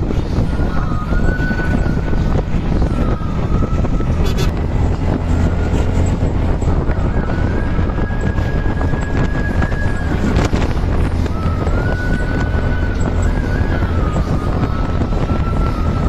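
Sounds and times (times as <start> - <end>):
engine rumble: 0.0 - 16.0
road and wind noise: 0.0 - 16.0.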